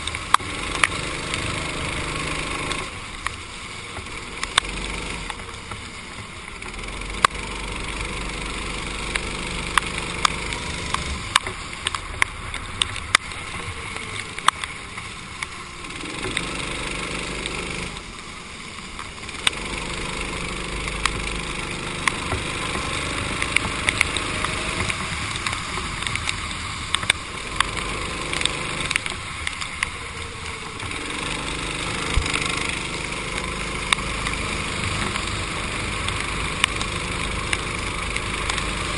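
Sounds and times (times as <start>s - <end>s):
sharp ticks: 0.0s - 3.4s, 4.0s - 5.8s, 6.6s - 18.1s, 19.0s - 38.9s
kart engine running: 0.0s - 38.9s
water spray hiss: 0.1s - 38.9s.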